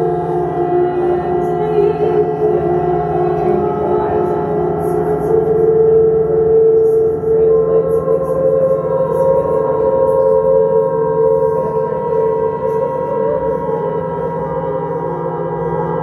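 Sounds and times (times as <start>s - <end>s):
drone of ringing tones: 0.0s - 16.0s.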